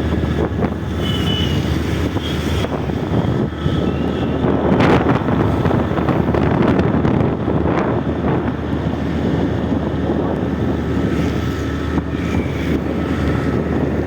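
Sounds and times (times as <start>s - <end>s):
road and motorbike noise: 0.0s - 14.0s
wind rushing over microphone: 0.0s - 14.0s.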